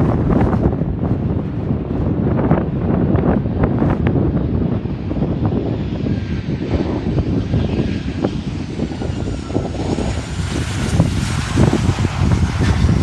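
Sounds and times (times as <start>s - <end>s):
airplane engines passing: 0.0s - 13.0s
wind buffeting microphone: 0.0s - 13.0s.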